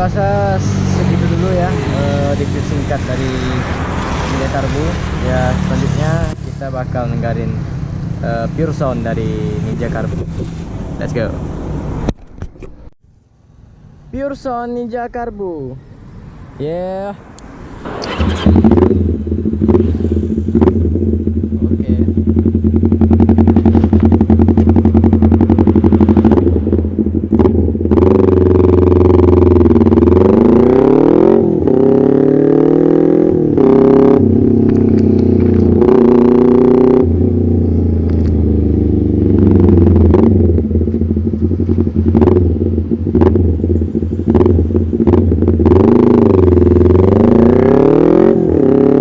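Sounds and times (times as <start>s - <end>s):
motorcycle engine revving: 0.0s - 12.2s, 16.3s - 49.0s.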